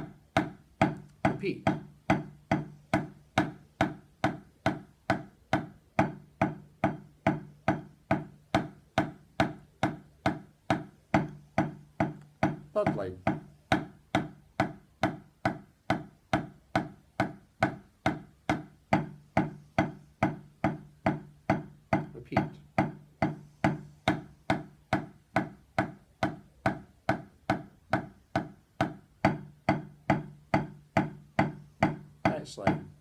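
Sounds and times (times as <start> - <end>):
drumsticks striking a practice pad: 0.0 - 33.0.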